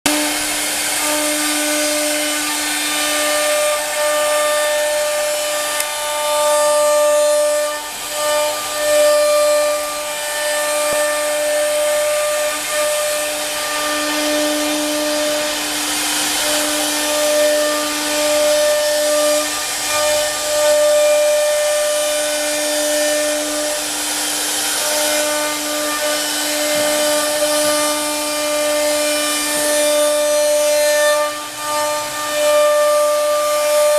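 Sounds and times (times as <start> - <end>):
router spindle whining: 0.0 - 33.9
bit cutting workpiece hiss: 0.1 - 33.9.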